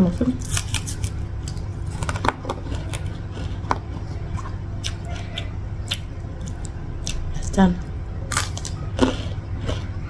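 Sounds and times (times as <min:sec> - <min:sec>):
steady low hum: 0:00.0 - 0:10.0
food being chewed: 0:00.4 - 0:07.6, 0:08.3 - 0:10.0.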